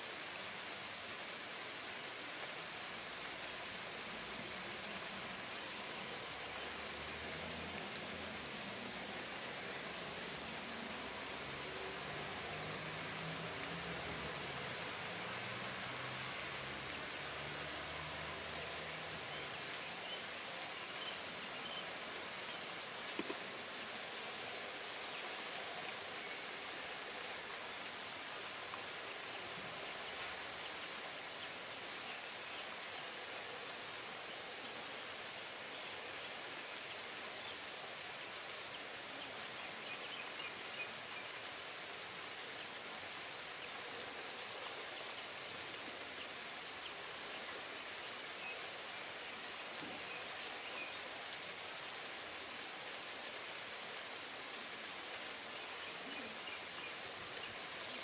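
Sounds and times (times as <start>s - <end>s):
rain falling on foliage: 0.0s - 58.0s.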